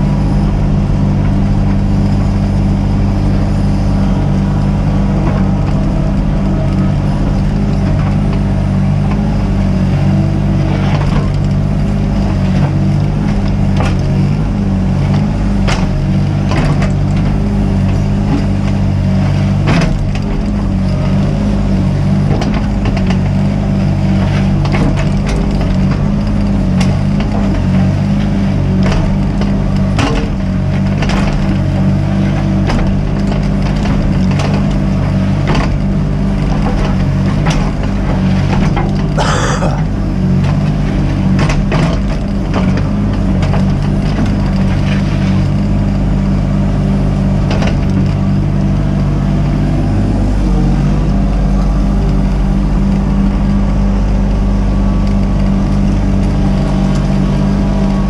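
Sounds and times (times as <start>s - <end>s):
mini excavator diesel engine: 0.0s - 58.0s.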